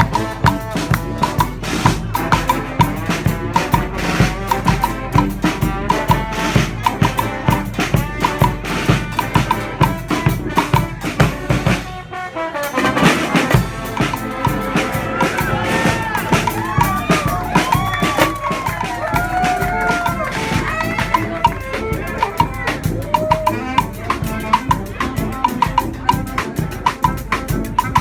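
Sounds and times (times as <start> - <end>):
brass band horns: 0.0 - 28.0
driving drumbeat: 0.0 - 28.0.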